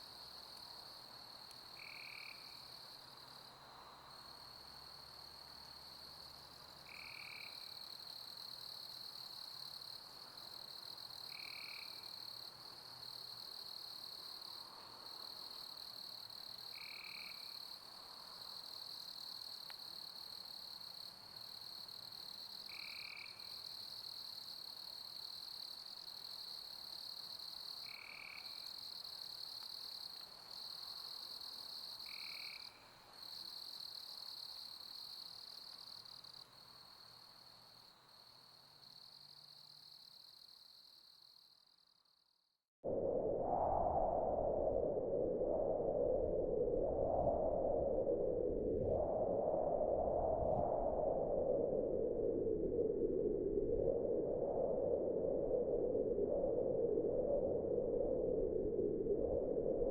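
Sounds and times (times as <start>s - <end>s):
crickets trilling: 0.0s - 42.3s, 42.9s - 59.9s.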